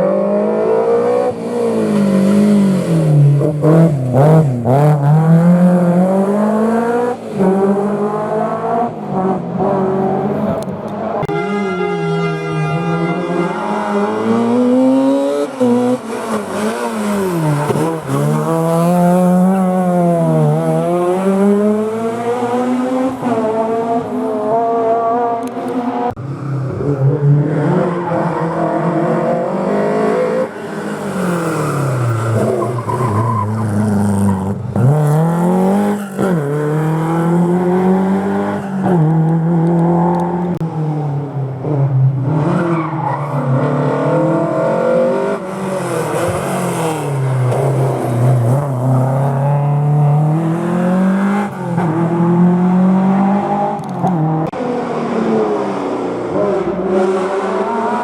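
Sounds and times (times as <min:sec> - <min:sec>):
rally car engines revving: 0:00.0 - 0:11.4, 0:12.8 - 0:58.0.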